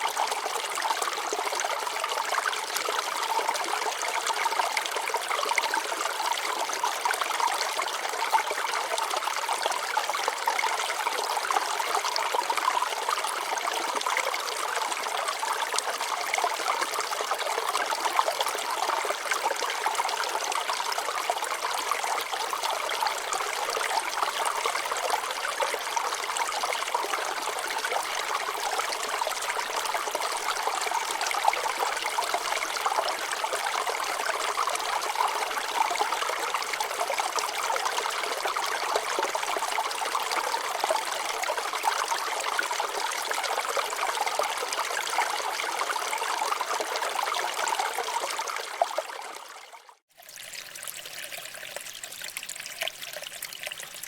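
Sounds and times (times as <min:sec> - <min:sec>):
water trickling over rocks: 0:00.0 - 0:54.0.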